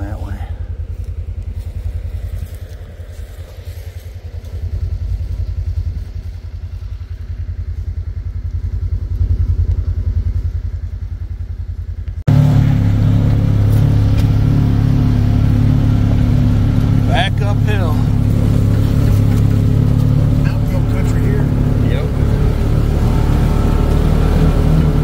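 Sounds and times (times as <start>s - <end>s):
loud steady engine drone: 0.0s - 25.0s
small vehicle engine running: 0.0s - 25.0s.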